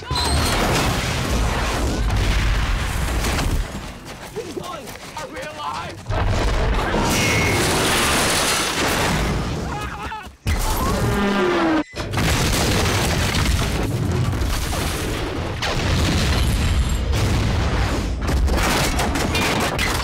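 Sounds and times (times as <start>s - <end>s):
explosions and crashing debris: 0.0s - 4.5s, 6.0s - 9.8s, 10.5s - 20.0s.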